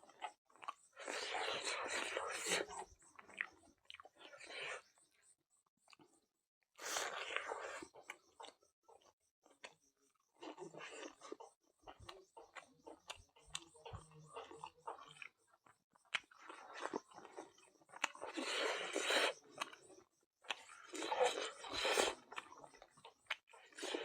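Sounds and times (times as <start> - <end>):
chewing food wet smacks: 0.0 - 4.8, 6.8 - 24.0.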